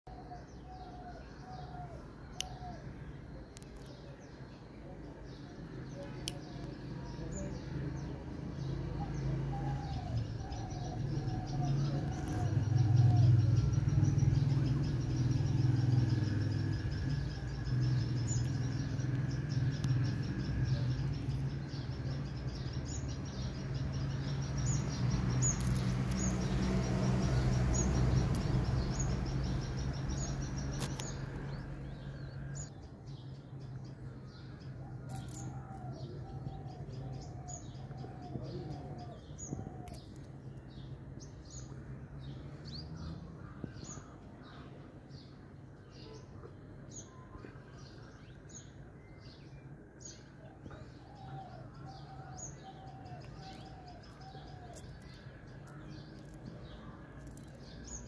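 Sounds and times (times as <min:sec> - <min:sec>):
small birds chirping: 0:00.1 - 0:58.0.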